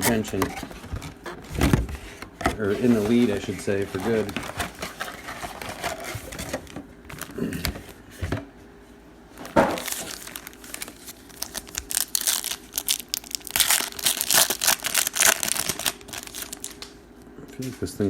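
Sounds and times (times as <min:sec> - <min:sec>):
plastic wrapping crinkling and tearing: 0:00.0 - 0:07.8, 0:09.8 - 0:17.0.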